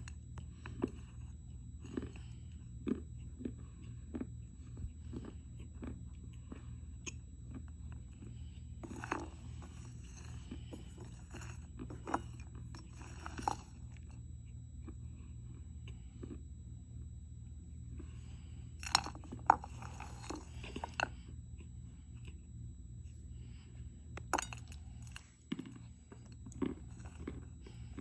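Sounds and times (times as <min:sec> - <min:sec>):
clay being chewed crunching: 0:00.0 - 0:17.1, 0:17.8 - 0:23.3, 0:24.0 - 0:28.0
steady low hum: 0:00.0 - 0:28.0.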